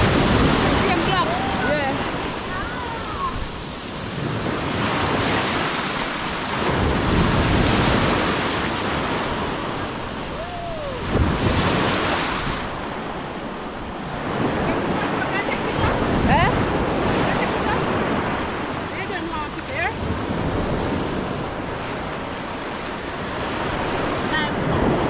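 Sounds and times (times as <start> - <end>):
waves breaking and washing in: 0.0 - 25.0
wind buffeting microphone: 0.0 - 25.0.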